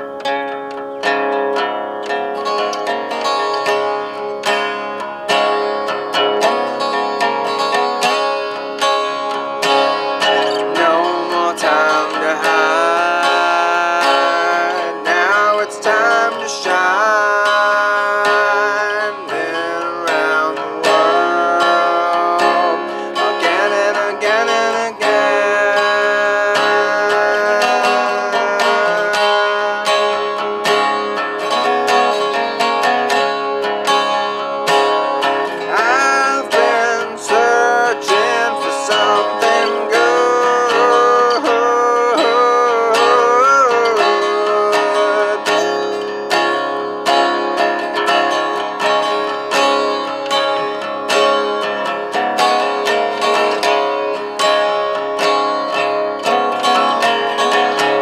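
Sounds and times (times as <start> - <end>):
fingerpicked blues resonator guitar: 0.0 - 58.0.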